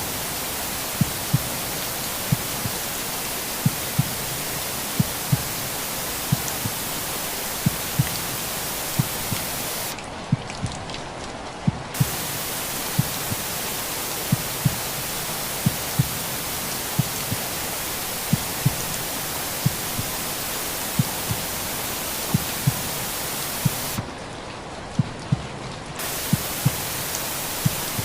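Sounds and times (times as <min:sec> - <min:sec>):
rain hiss: 0:00.0 - 0:24.9, 0:26.0 - 0:28.0
heartbeat thumps: 0:00.9 - 0:02.9, 0:03.6 - 0:10.5, 0:11.7 - 0:20.2, 0:20.9 - 0:24.1, 0:25.0 - 0:28.0.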